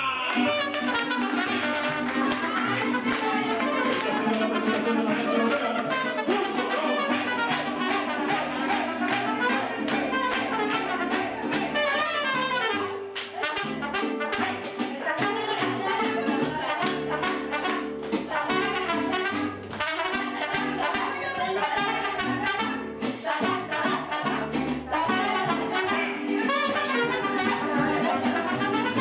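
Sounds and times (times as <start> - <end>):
trumpets: 0.0 - 14.8, 16.8 - 29.0
mariachi band playing: 0.0 - 29.0
strummed guitar beat: 0.0 - 29.0.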